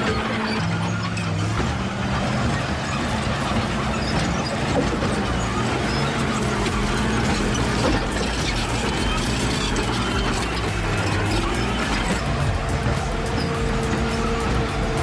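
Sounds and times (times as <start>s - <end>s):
bulldozer diesel engine running: 0.0s - 15.0s
steel and rock clatter: 0.0s - 15.0s.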